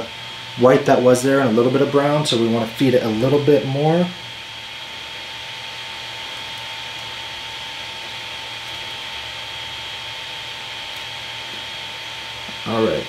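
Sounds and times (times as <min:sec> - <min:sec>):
cooling fans humming: 0:00.0 - 0:13.0.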